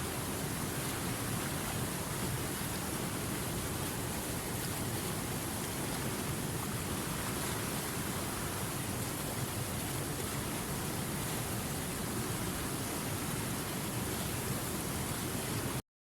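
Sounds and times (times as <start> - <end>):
river rushing over rapids: 0.0 - 15.8.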